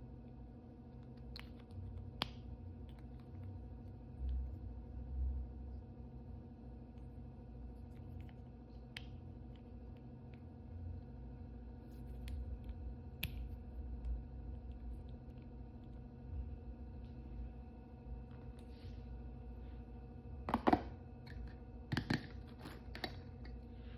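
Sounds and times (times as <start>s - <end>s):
low electrical hum: 0.0s - 23.9s.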